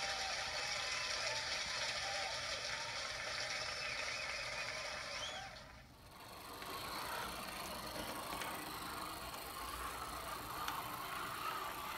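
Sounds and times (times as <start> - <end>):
model train motor whir: 0.0 - 11.9.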